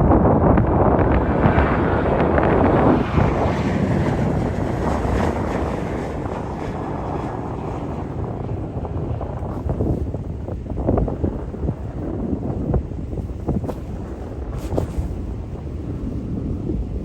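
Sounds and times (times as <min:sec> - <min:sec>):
airliner engines rumbling: 0:00.0 - 0:17.0
wind buffeting microphone: 0:00.0 - 0:17.0.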